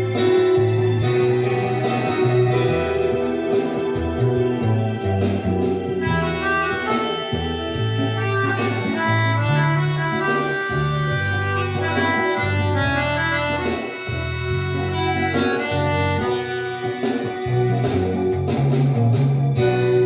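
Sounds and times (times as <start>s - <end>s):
accordion melody with bass line: 0.0s - 20.0s.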